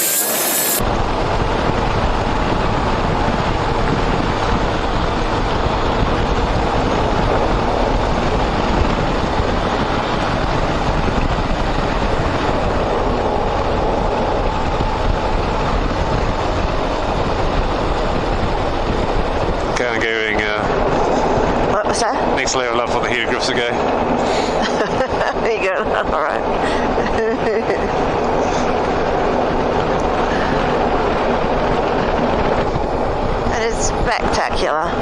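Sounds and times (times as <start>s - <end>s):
motorcycle engine: 0.0s - 35.0s
wind and road noise: 0.0s - 35.0s.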